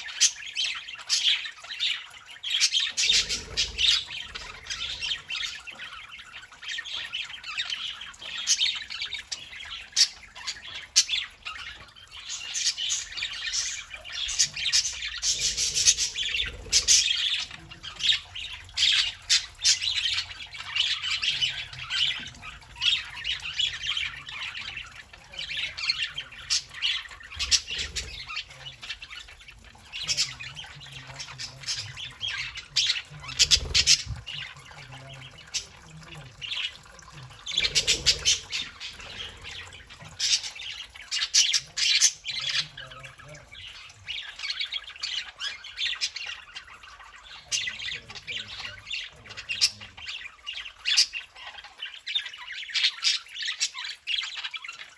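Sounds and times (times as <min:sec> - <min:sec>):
budgerigars chattering and squawking: 0:00.0 - 0:54.9.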